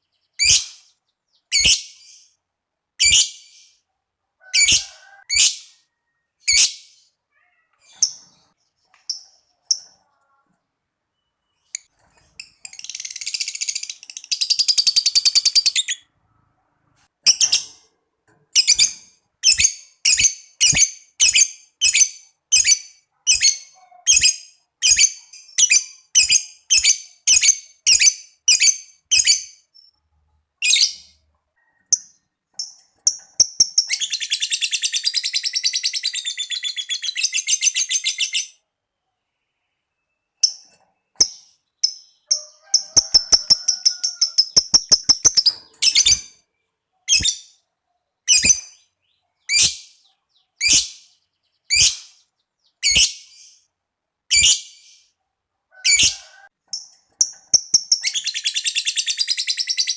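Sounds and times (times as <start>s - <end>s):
lovebird chirping and trilling: 0.0s - 2.4s, 3.0s - 3.8s, 4.5s - 5.8s, 6.4s - 10.1s, 11.1s - 16.2s, 17.2s - 17.9s, 18.5s - 30.0s, 30.6s - 38.6s, 40.0s - 46.4s, 47.0s - 47.6s, 48.2s - 53.7s, 54.3s - 55.1s, 55.8s - 59.9s.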